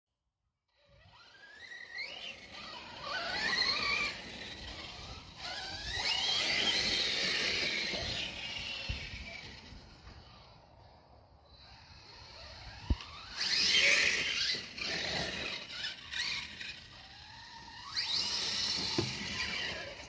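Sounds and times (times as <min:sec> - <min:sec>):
rc truck motor whining: 0:00.7 - 0:20.0.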